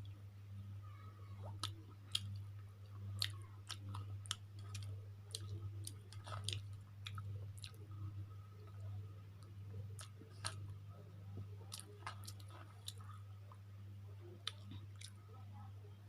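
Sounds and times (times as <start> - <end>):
low steady hum: 0.0 - 16.0
person chewing food: 1.5 - 13.7, 14.4 - 15.2.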